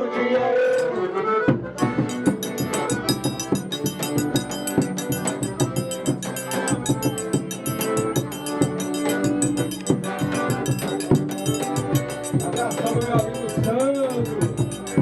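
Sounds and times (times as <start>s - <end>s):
accordion: 0.0s - 15.0s
percussion fast beat: 1.7s - 15.0s.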